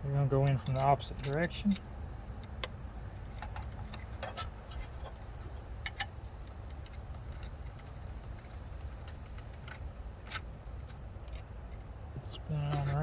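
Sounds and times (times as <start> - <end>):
low background rumble: 0.0 - 13.0
light clicks and taps of bolts: 0.1 - 13.0.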